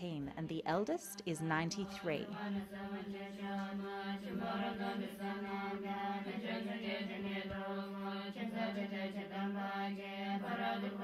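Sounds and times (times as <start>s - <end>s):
women chanting on one note: 1.5s - 11.0s.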